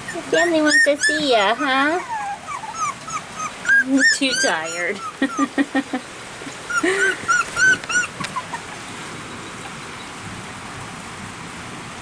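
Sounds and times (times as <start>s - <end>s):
puppies whimpering and yipping: 0.0s - 10.2s
rain hiss: 0.0s - 12.0s.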